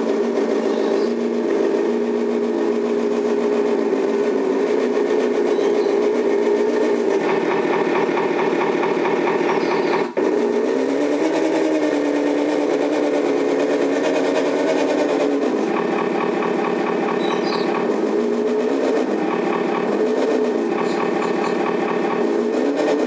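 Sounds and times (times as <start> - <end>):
simulated truck engine from speaker: 0.0 - 23.0.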